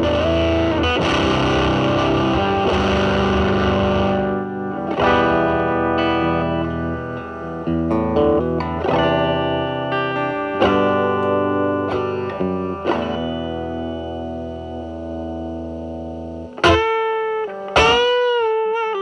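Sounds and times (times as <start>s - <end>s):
fuzz electric guitar picked notes: 0.0s - 19.0s.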